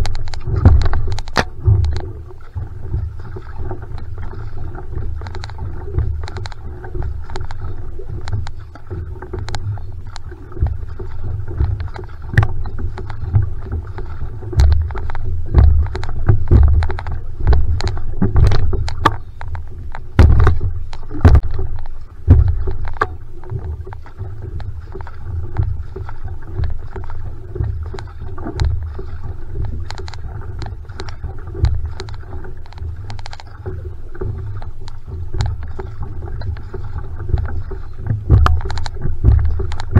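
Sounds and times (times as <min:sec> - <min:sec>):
constant low rumble: 0:00.0 - 0:39.9
paddle strokes splashing: 0:00.0 - 0:39.9
water rushing along hull: 0:00.0 - 0:39.9.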